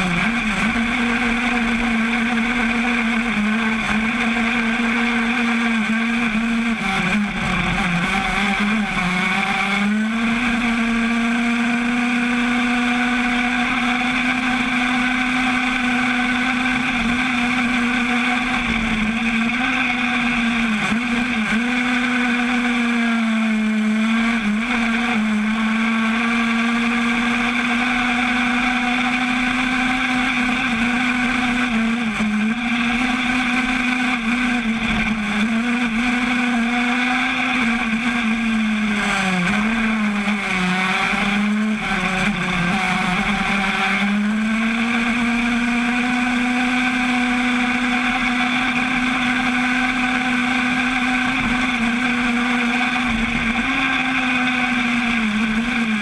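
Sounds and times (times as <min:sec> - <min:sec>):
two-stroke engine at high revs: 0:00.0 - 0:56.0.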